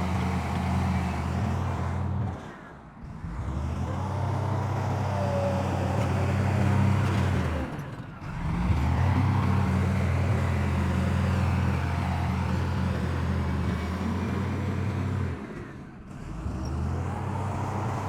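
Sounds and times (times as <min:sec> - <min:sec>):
heavy diesel engine running: 0:00.0 - 0:02.4, 0:03.2 - 0:18.0.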